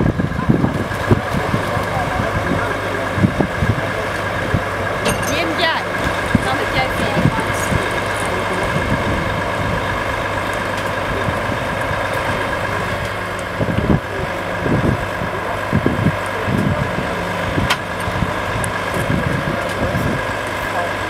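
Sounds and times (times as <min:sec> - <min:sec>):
diesel truck engine running: 0:00.0 - 0:21.0
wind buffeting microphone: 0:00.0 - 0:21.0.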